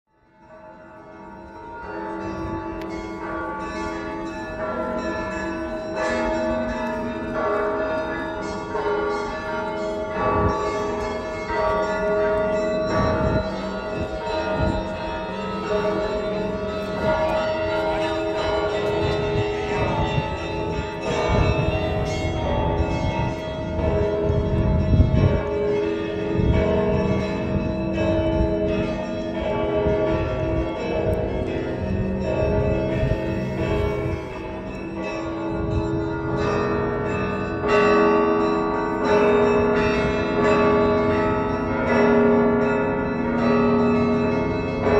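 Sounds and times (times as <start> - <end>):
church bells ringing: 0.1 - 44.9
hum of large bells: 0.1 - 44.9.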